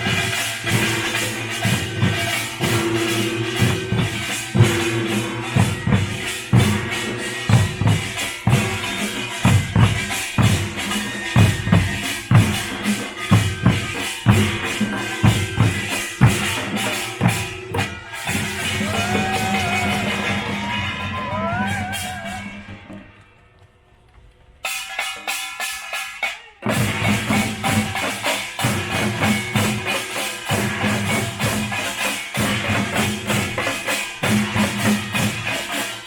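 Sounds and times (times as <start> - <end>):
drums struck hard: 0.0 - 22.7, 24.7 - 36.0.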